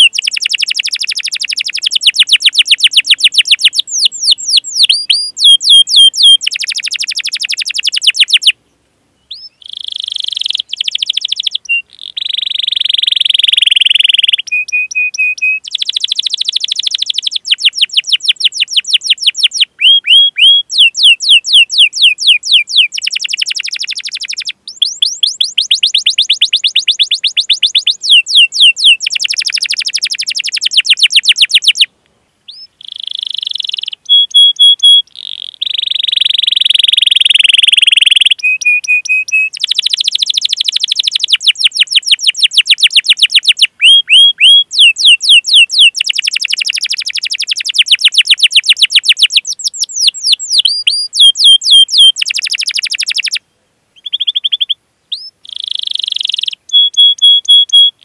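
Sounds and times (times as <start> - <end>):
canary singing trills: 0.0 - 8.6, 9.2 - 31.9, 32.5 - 58.0.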